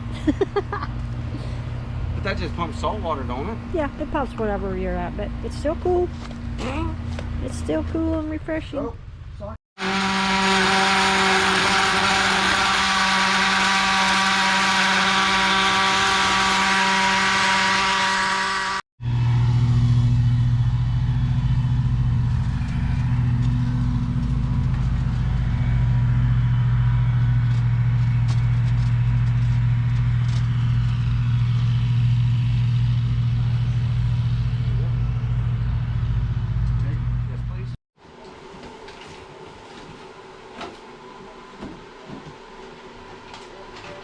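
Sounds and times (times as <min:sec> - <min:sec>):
vehicle engine and road drone: 0:00.0 - 0:44.0.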